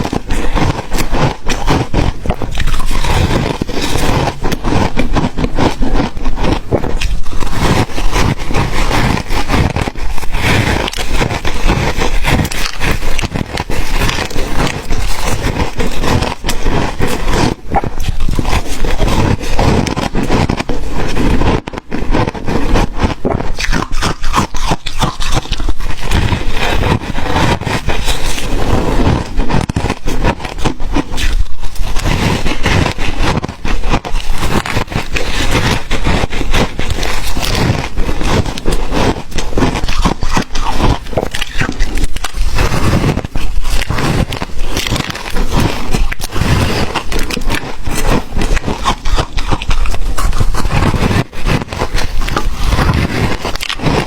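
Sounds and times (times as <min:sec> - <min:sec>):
ice being chewed and crunched: 0:00.0 - 0:54.0.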